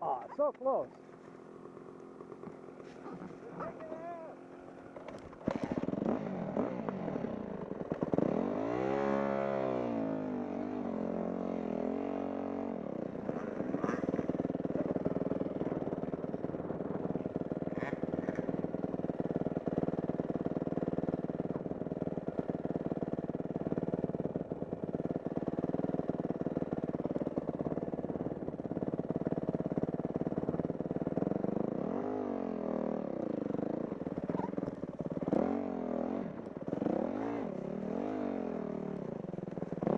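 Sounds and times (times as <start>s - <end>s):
dirt bike engine revving: 0.7s - 39.9s.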